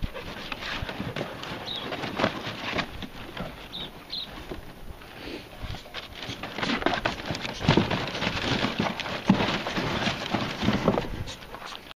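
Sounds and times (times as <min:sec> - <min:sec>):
cardboard boxes rustling and bumping: 0:00.3 - 0:04.8, 0:05.7 - 0:11.9.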